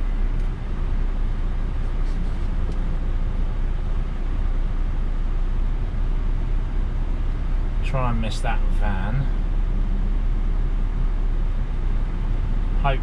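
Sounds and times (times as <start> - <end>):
lorry diesel engine rumble: 0.0 - 13.0
road noise: 0.0 - 13.0.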